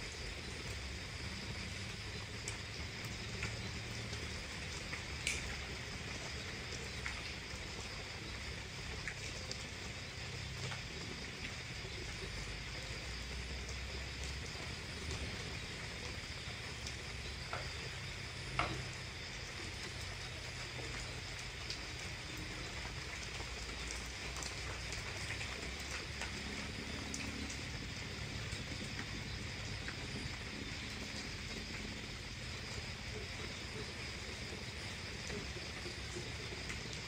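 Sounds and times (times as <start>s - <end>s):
night insects chirring: 0.0s - 37.0s.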